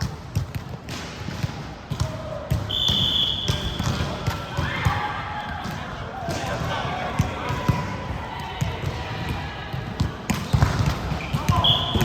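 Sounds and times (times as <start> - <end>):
basketballs bouncing on court: 0.0 - 12.0.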